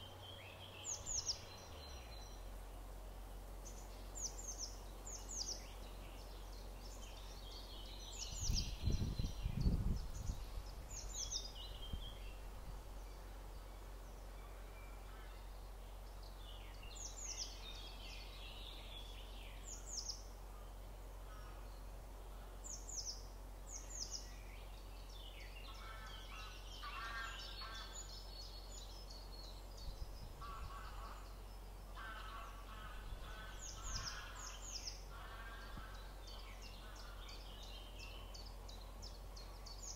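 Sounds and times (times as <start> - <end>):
birds singing and calling: 0.0 - 2.6, 3.6 - 39.9
steady background hiss: 0.0 - 39.9.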